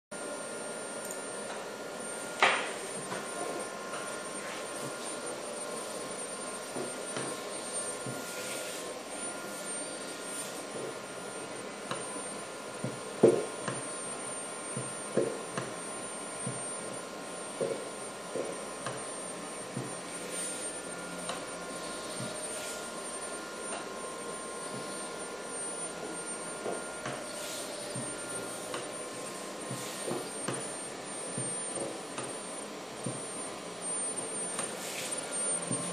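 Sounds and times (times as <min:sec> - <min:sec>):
high steady motor whines: 0:00.2 - 0:35.9.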